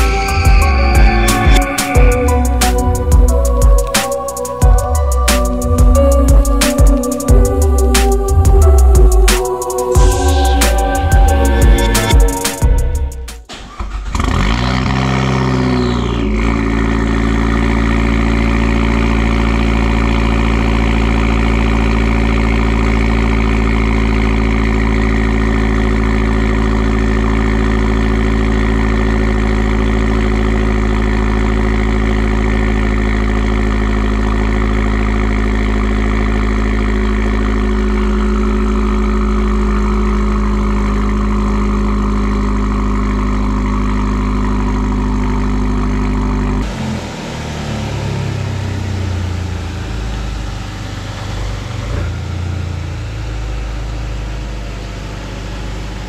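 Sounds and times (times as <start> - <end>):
car engine revving and idling: 0.0 - 56.0.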